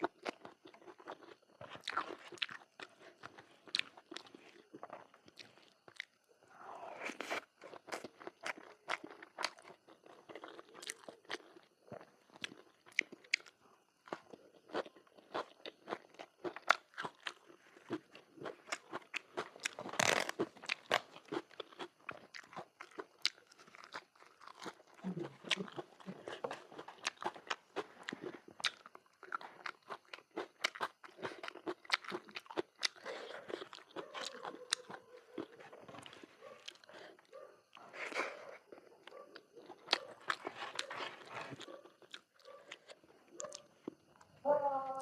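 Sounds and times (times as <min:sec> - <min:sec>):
person crunching and chewing: 0:00.0 - 0:44.3.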